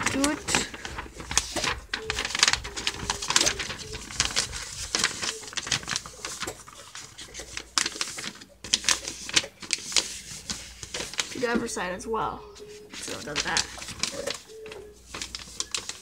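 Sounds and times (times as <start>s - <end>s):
paper rustling and crinkling: 0.0s - 12.0s, 12.6s - 16.0s.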